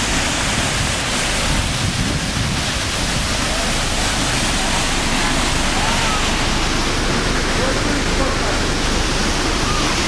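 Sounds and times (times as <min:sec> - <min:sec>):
waterfall rushing onto rocks: 0:00.0 - 0:10.0.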